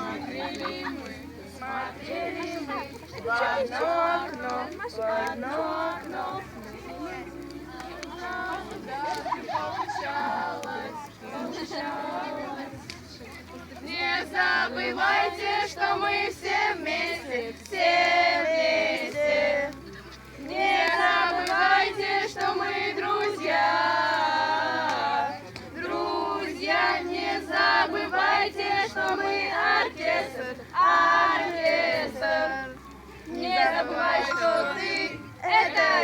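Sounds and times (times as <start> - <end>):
young voices singing in chorus: 0.0 - 12.9, 13.8 - 36.0.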